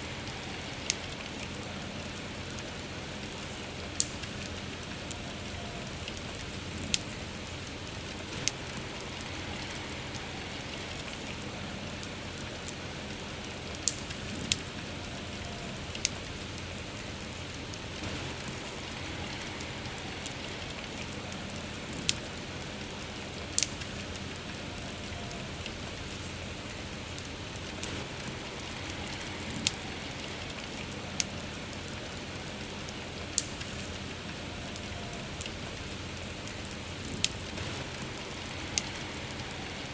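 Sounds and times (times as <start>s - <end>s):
rain hiss: 0.0s - 39.9s
wood fire crackling and popping: 0.0s - 39.9s.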